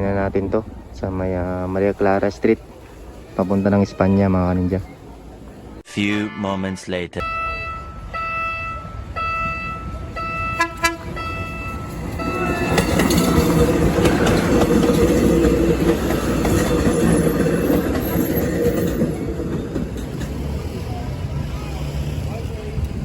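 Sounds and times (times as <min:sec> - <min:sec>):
commuter train rumbling past: 0:00.0 - 0:05.8, 0:07.2 - 0:23.0.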